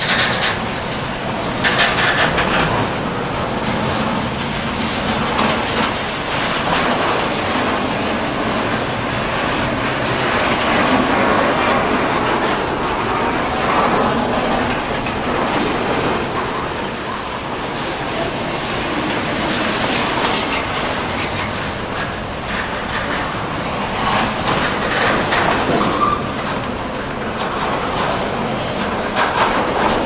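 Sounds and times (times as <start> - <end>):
freight train wheels rushing on rail: 0.0 - 30.0
wheels clicking on track: 0.0 - 30.0.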